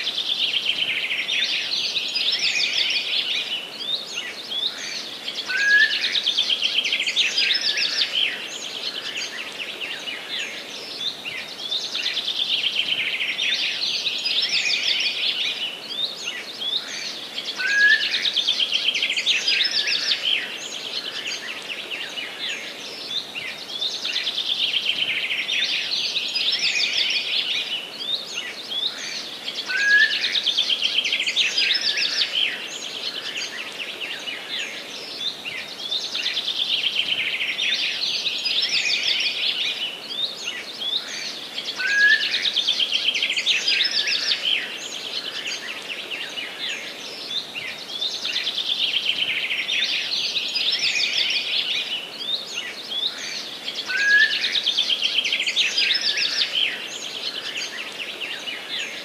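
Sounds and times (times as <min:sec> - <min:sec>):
faint forest background: 0:00.0 - 0:59.0.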